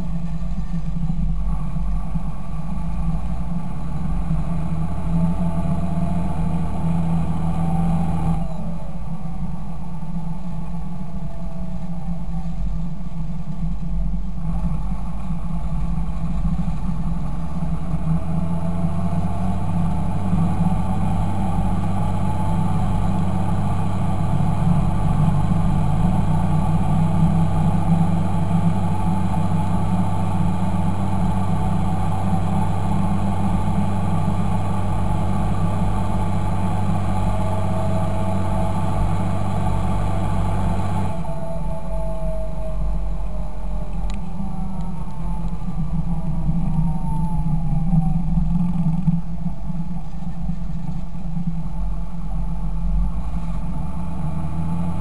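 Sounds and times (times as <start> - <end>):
faint whine: 0.0 - 55.0
tractor diesel engine running: 0.0 - 55.0.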